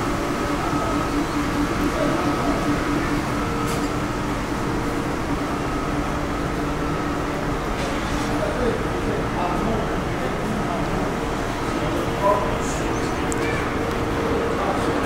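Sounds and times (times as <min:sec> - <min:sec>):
machine hum and low rumble: 0:00.0 - 0:15.0.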